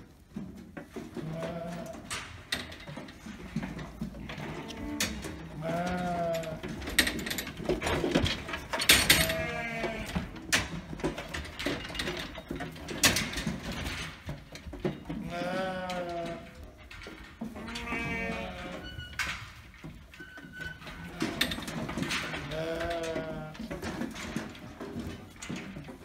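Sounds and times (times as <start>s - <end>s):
sheep knocking metal race: 0.1s - 26.0s.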